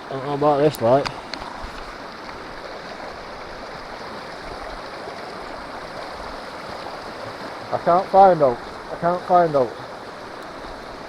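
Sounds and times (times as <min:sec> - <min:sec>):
stream running water: 0:00.0 - 0:11.0.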